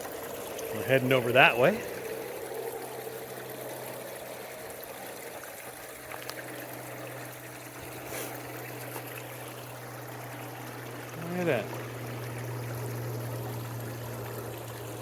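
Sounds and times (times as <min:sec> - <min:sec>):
spring water trickling: 0:00.0 - 0:15.0.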